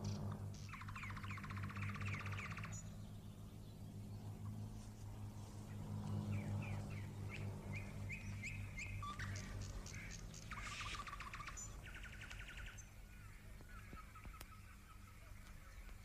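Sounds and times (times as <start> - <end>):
bird trills: 0.0 - 3.2, 6.3 - 16.0
birds chirping: 0.0 - 16.0
low steady hum: 0.0 - 16.0.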